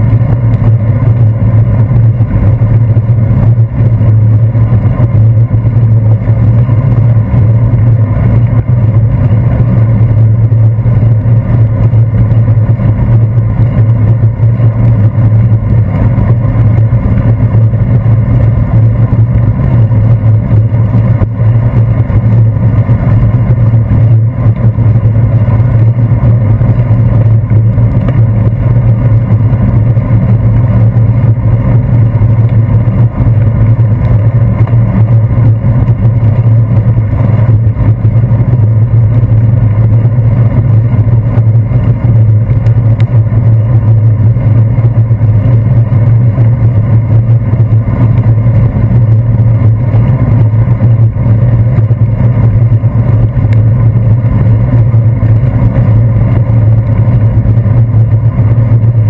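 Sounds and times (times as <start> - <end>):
bicycle riding on wet road: 0.1 - 59.0.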